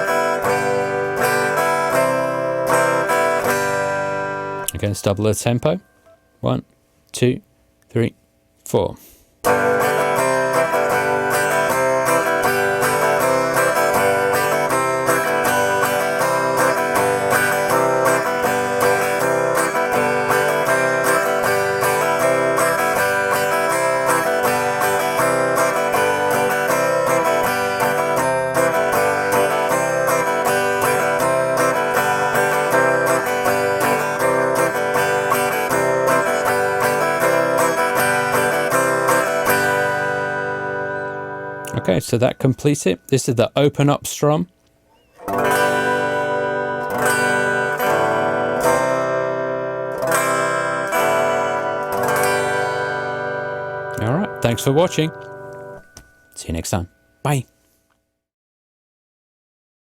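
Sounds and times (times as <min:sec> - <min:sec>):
guitar strumming: 0:00.0 - 0:07.4, 0:08.8 - 0:57.8.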